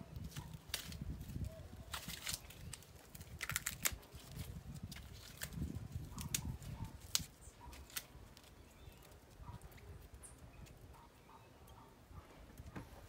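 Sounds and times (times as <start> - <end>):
corn husk tearing and snapping: 0.1 - 10.8.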